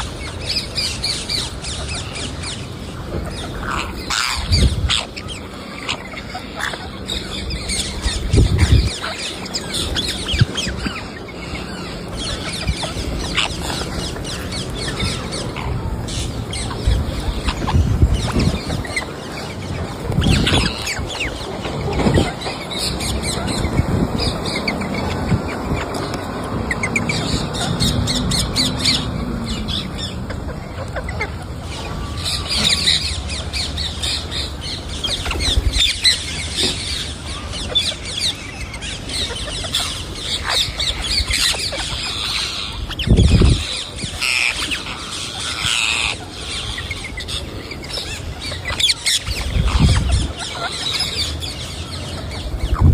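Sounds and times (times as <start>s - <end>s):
bird squawks and chirps: 0.0s - 52.9s.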